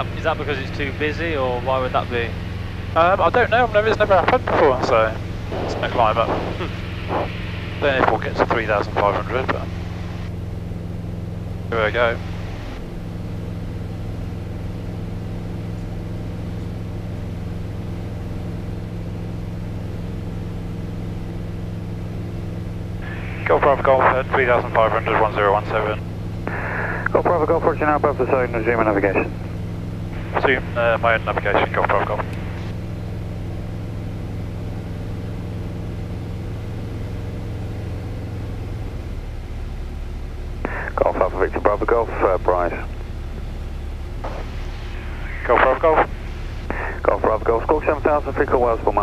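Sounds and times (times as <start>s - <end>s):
airplane engine and propeller droning: 0.0s - 49.0s.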